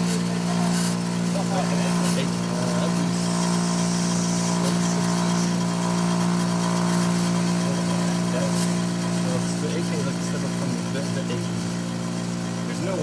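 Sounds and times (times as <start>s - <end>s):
compressor hum: 0.0s - 13.0s
fan rushing: 0.0s - 13.0s.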